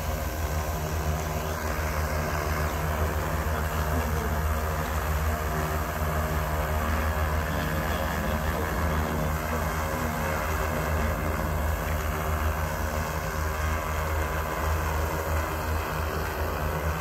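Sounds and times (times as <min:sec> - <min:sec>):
drone propellers buzzing hum: 0:00.0 - 0:17.0.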